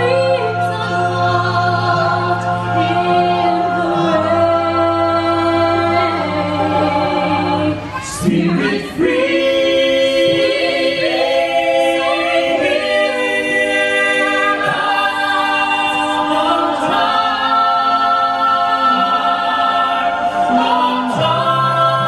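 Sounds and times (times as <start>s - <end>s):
a cappella ensemble singing: 0.0s - 22.0s.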